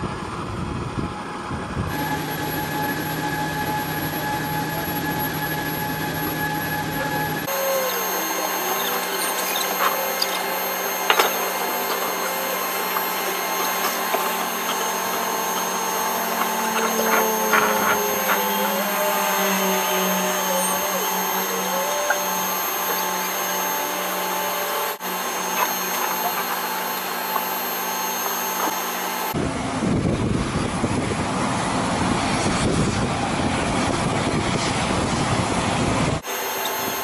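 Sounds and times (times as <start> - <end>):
machinery whining drone: 0.0 - 37.0.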